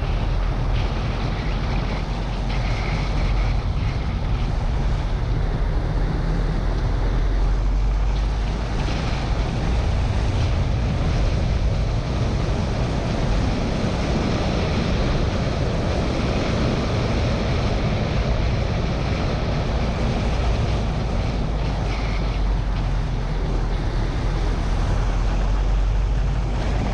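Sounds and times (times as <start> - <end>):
engine and tyre rumble: 0.0 - 26.9
wind rush on microphone: 0.0 - 26.9.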